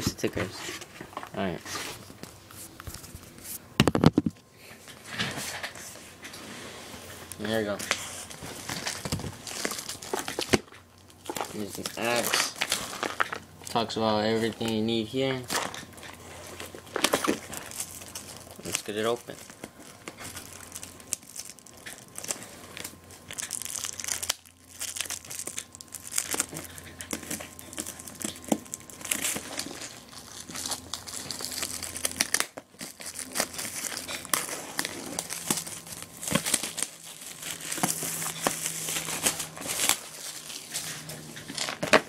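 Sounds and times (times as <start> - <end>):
plastic bags crinkling: 7.2 - 42.0.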